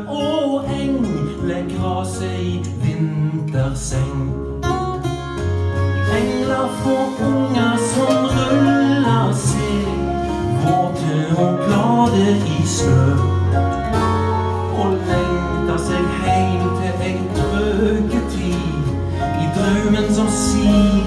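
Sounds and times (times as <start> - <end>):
acoustic band playing instrumental: 0.0 - 21.0
double bass notes: 0.0 - 21.0.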